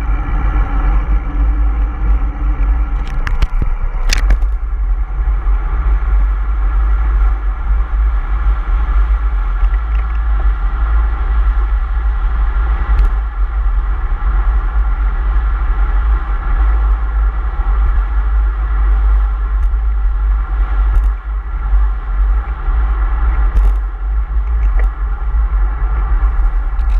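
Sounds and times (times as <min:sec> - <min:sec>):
vehicle road noise rumble: 0:00.0 - 0:26.9.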